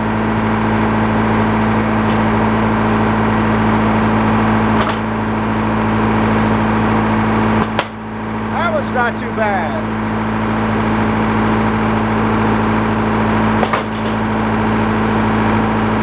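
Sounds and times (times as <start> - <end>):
sawmill engine humming: 0.0 - 16.0.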